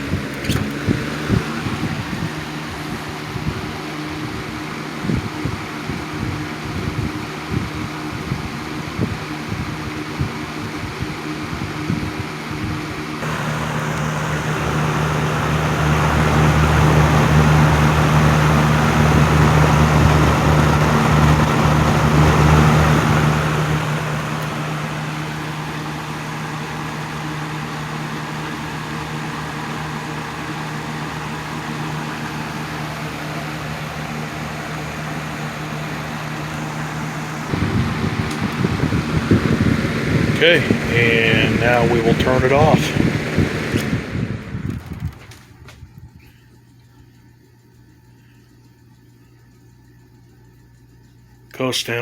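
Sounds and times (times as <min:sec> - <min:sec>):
rush of air from fan: 0:00.0 - 0:46.7
fan motor hum: 0:00.0 - 0:52.0.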